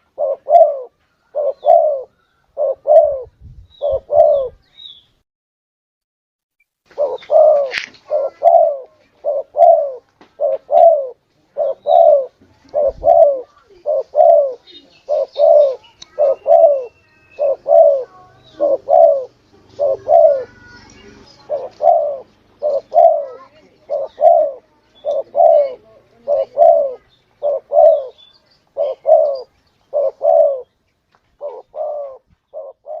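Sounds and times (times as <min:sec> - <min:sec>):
dove cooing: 0:00.0 - 0:04.6, 0:06.9 - 0:30.7, 0:31.4 - 0:33.0.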